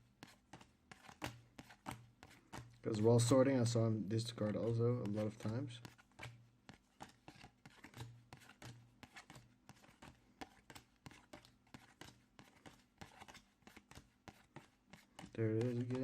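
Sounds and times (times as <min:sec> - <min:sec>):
cards tapping and slapping: 0:00.2 - 0:03.3, 0:04.3 - 0:16.0.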